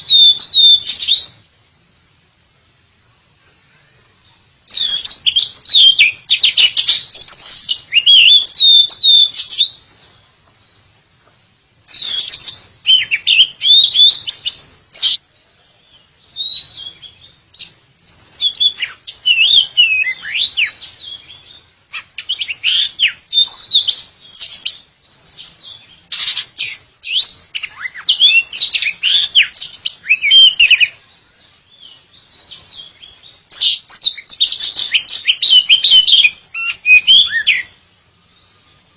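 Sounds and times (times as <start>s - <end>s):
songbird singing whistles and chatter: 0.0s - 2.0s, 3.9s - 11.0s, 11.9s - 38.9s.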